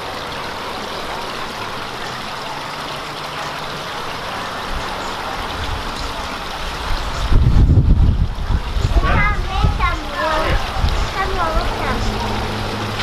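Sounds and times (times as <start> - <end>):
waterfall splashing into pond: 0.0 - 13.0.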